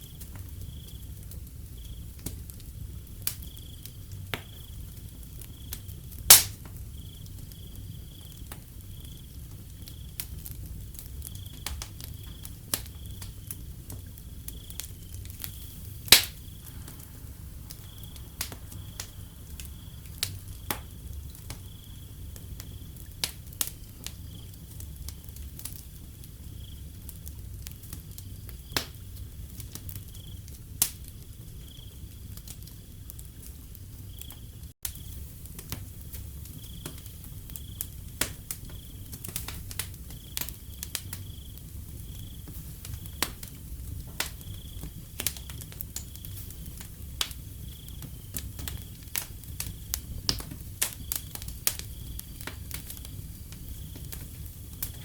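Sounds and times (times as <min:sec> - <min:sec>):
cricket chirping: 0:00.0 - 0:02.3, 0:03.1 - 0:06.0, 0:06.8 - 0:27.0, 0:29.9 - 0:30.6, 0:31.2 - 0:33.2, 0:34.0 - 0:35.2, 0:36.2 - 0:55.0
low rumble of burning: 0:00.0 - 0:55.0
wood fire crackling and popping: 0:00.0 - 0:55.0.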